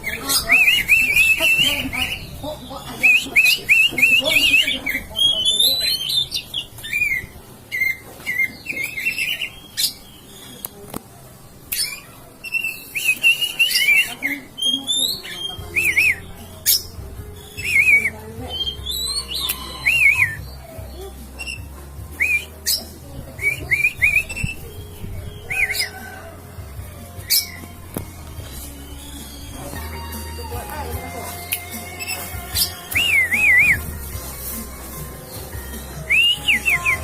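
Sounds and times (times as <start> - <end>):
songbird singing whistles: 0.0 - 2.4, 3.0 - 10.7, 11.7 - 26.1, 27.2 - 29.8, 31.5 - 34.2, 35.3 - 37.0.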